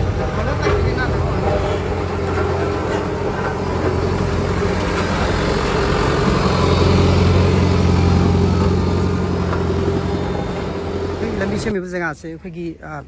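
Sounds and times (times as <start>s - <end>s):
road roller engine running: 0.0s - 11.8s.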